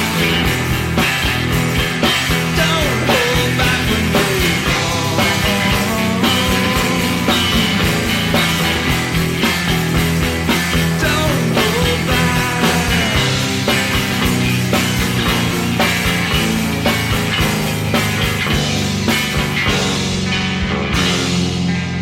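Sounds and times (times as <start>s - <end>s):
rock music: 0.0s - 22.0s.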